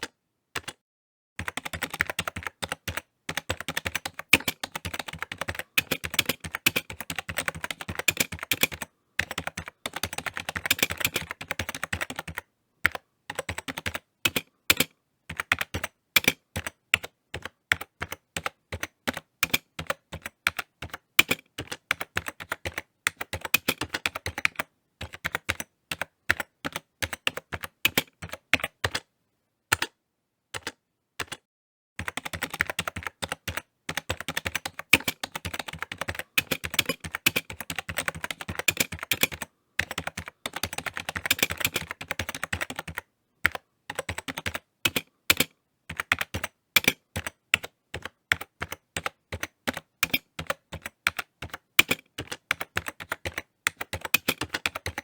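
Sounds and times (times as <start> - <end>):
keyboard typing clicks: 0.0 - 0.8, 1.4 - 29.1, 30.6 - 31.4, 32.0 - 55.0.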